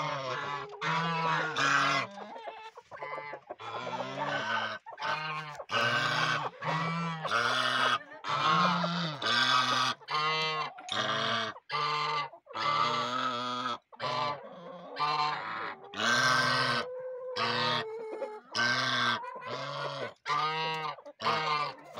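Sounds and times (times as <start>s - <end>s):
geese honking: 0.0s - 21.9s.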